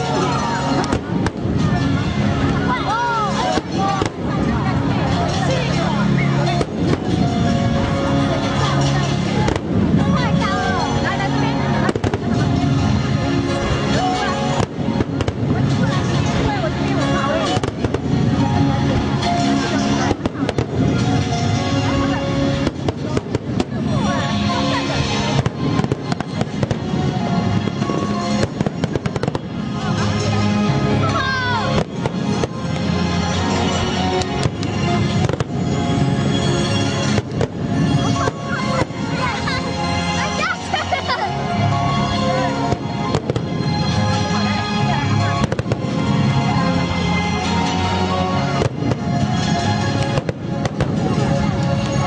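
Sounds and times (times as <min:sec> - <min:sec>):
fireworks bangs and crackles: 0:00.0 - 0:52.0
loud music: 0:00.0 - 0:52.0.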